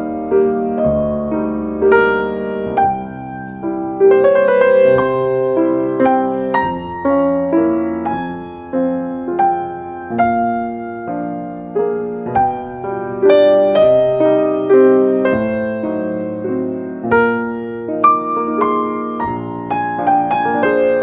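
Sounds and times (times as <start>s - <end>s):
slow soft piano chords: 0.0s - 21.0s.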